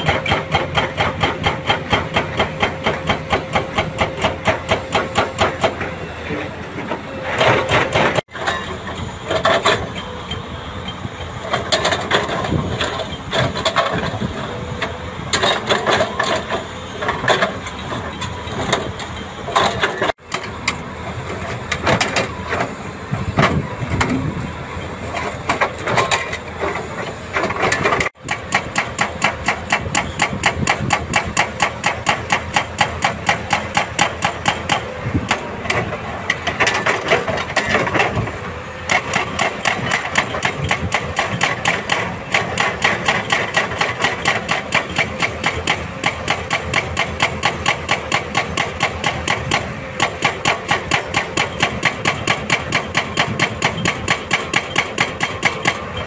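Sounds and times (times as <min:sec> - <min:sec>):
hydraulic rock breaker hammering: 0:00.0 - 0:06.0, 0:06.8 - 0:10.4, 0:11.1 - 0:56.0
excavator engines running: 0:00.0 - 0:56.0.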